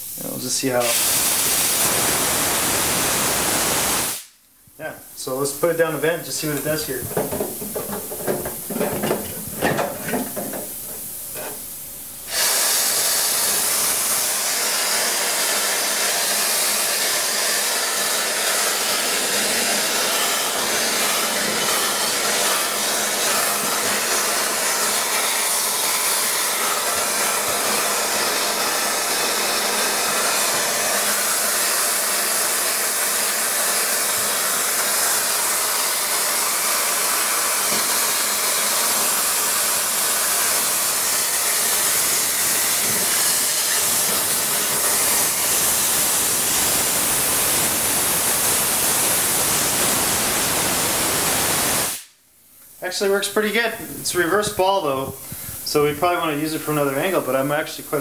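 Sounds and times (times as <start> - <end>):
compressed air hissing: 0.0 - 52.2, 54.9 - 56.3.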